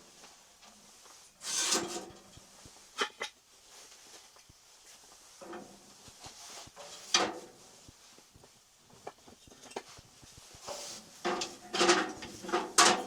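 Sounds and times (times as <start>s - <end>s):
scraping handling noises: 0.7s - 13.0s.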